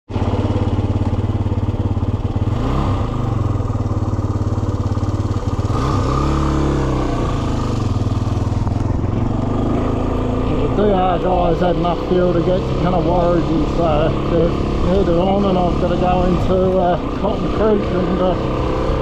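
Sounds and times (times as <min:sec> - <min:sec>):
motorcycle engine revving: 0:00.1 - 0:19.0.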